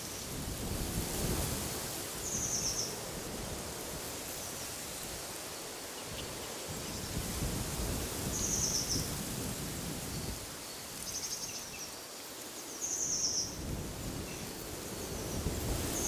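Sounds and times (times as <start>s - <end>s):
wind gusting through trees: 0.0s - 16.0s.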